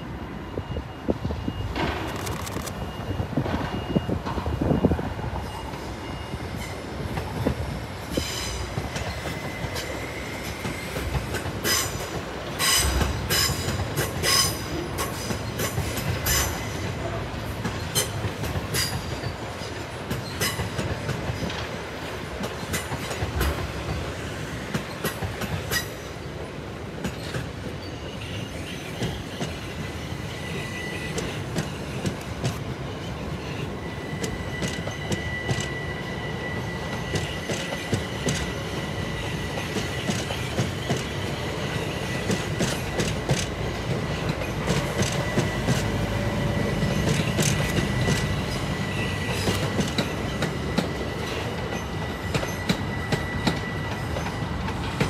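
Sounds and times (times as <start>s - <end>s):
train wheel squeals: 0.0s - 55.0s
train wheels rumbling on rails: 0.0s - 55.0s.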